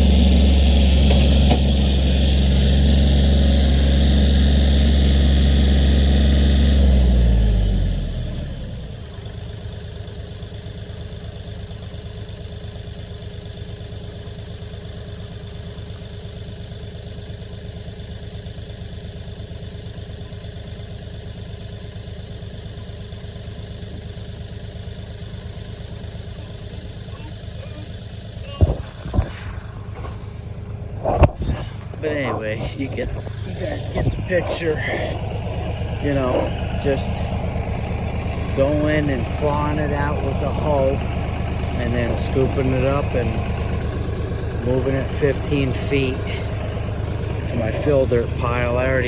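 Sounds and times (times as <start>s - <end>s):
tractor diesel engine: 0.0s - 49.0s.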